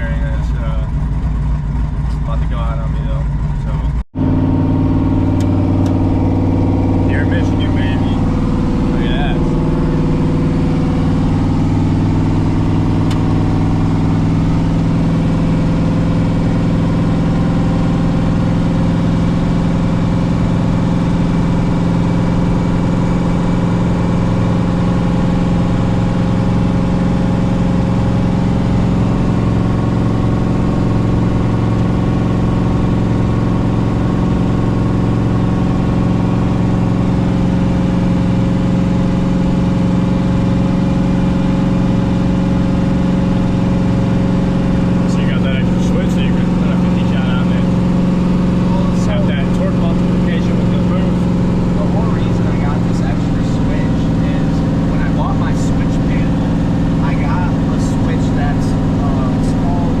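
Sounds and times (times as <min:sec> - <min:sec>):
car engine droning: 0:00.0 - 1:00.0.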